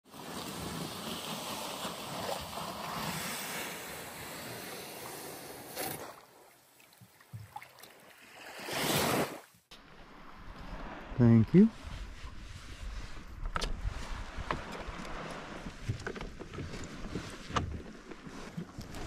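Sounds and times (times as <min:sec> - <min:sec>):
small waves on shoreline: 0:00.0 - 0:19.0
wind: 0:00.0 - 0:19.0.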